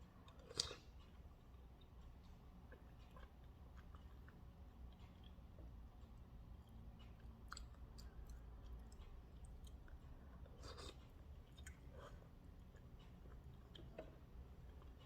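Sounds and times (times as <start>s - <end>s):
chewing with small clicks: 0.0s - 15.0s
steady low hum: 0.0s - 15.0s.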